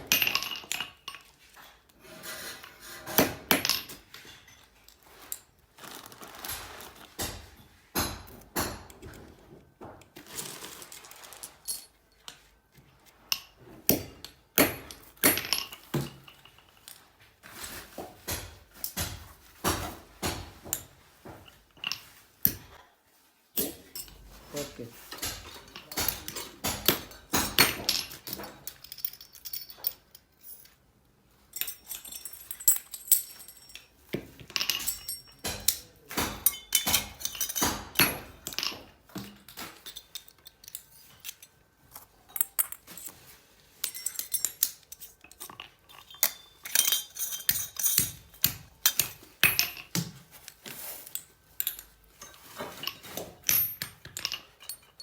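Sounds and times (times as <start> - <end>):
metal clinking and clattering: 0.0 - 9.4, 10.1 - 22.8, 23.6 - 55.0.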